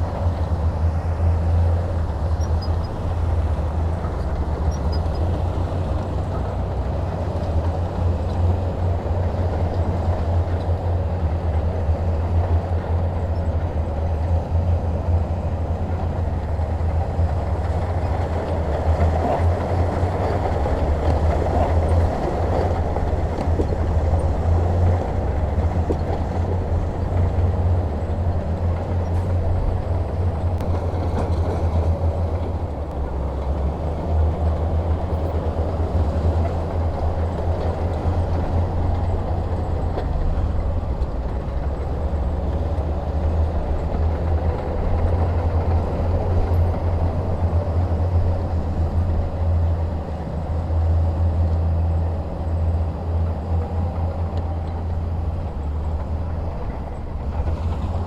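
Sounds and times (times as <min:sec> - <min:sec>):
heavy diesel engine rumbling: 0:00.0 - 0:58.0.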